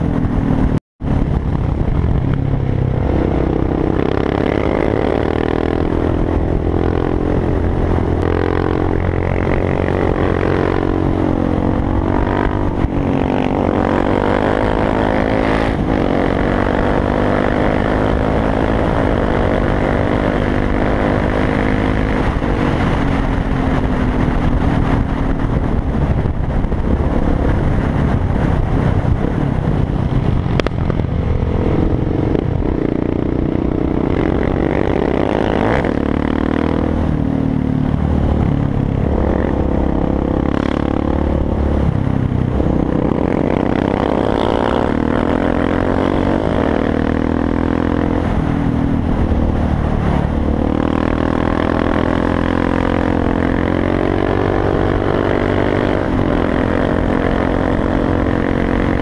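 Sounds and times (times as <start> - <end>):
motorcycle engine running: 0.0 - 59.0
wind rushing: 0.0 - 59.0.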